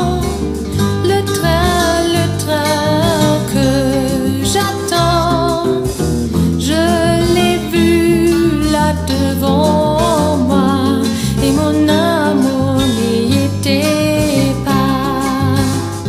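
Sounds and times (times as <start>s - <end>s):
guitar accompaniment: 0.0s - 16.0s
woman singing: 0.0s - 16.0s.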